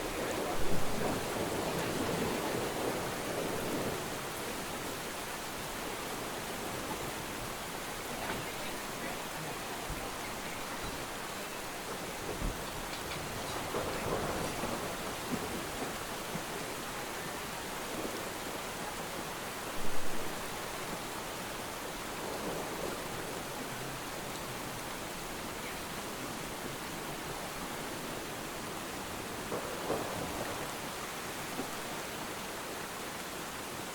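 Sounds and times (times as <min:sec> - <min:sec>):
thunder clap: 0:00.0 - 0:18.4, 0:21.9 - 0:28.4, 0:29.0 - 0:32.1
steady rain: 0:00.0 - 0:33.9.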